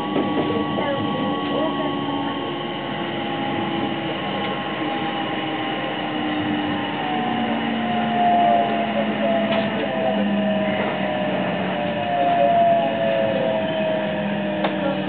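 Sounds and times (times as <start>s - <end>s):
electric train motor whine: 0.0s - 15.0s
wheels rumbling on rails: 0.0s - 15.0s.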